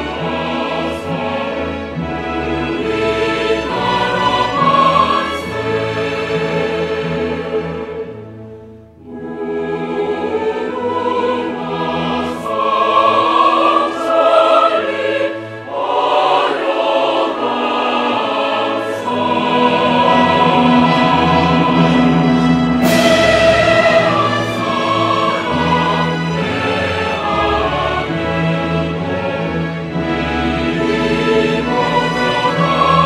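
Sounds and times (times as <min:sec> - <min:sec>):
choir singing long chords: 0:00.0 - 0:33.0.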